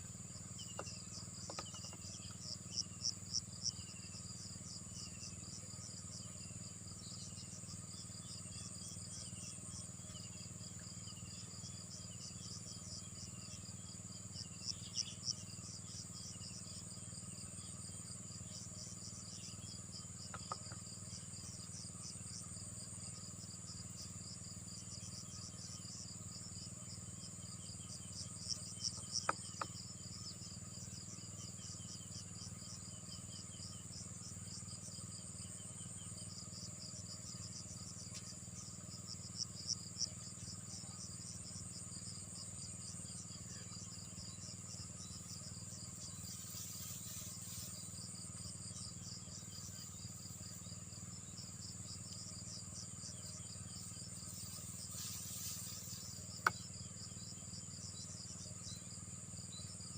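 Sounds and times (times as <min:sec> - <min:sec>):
insects chirping: 0:00.0 - 0:59.9
shrill insect trill: 0:00.0 - 0:59.9.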